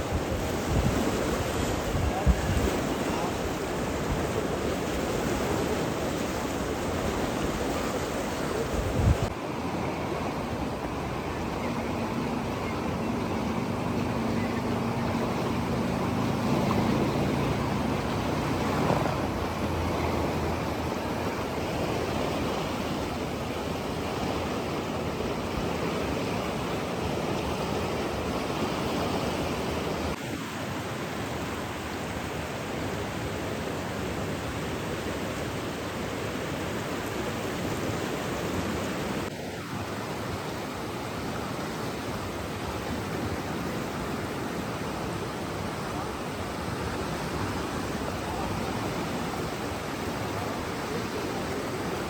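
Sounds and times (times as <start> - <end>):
rushing water: 0.0 - 52.0.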